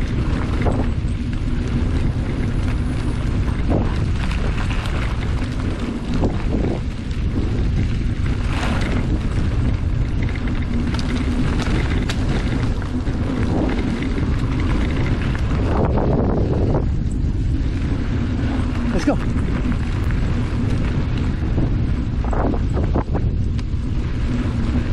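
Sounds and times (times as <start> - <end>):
low rumble of rolling wheels: 0.0 - 24.9
wind buffeting microphone: 0.0 - 24.9.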